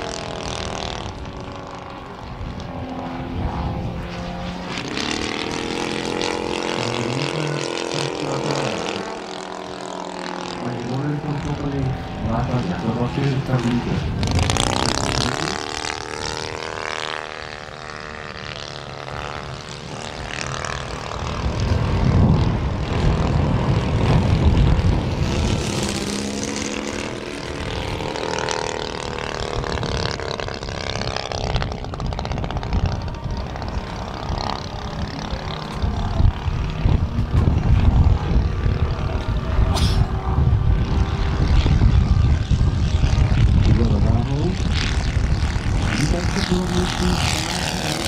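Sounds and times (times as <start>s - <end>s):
model airplane engine and propeller: 0.0s - 48.0s.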